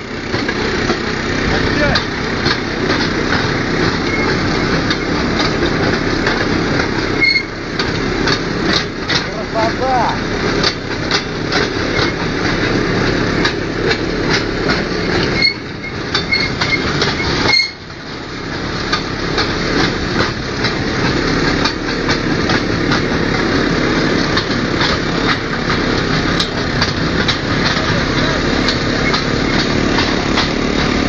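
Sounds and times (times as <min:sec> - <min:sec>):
rail trolley engine running: 0:00.0 - 0:31.0
wheels clattering over rails: 0:00.0 - 0:31.0
wheel squeaks: 0:00.1 - 0:31.0.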